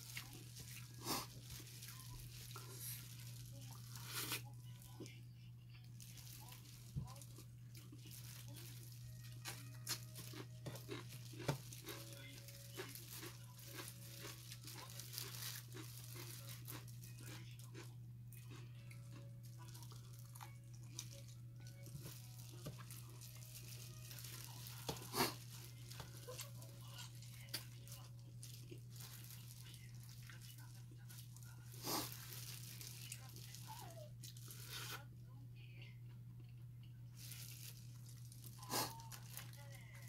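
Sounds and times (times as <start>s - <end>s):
chewing: 0.0s - 5.2s, 6.0s - 35.0s
plastic gloves crinkling: 0.0s - 5.2s, 5.8s - 17.8s, 19.3s - 35.0s, 37.2s - 40.0s.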